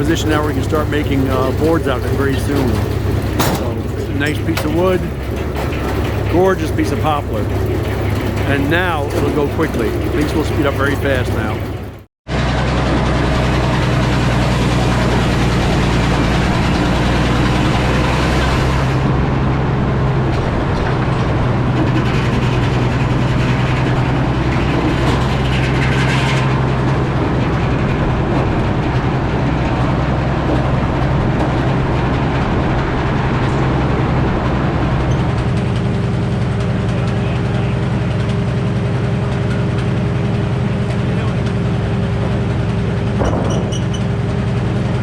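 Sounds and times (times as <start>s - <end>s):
sawmill engine droning: 0.0s - 45.0s.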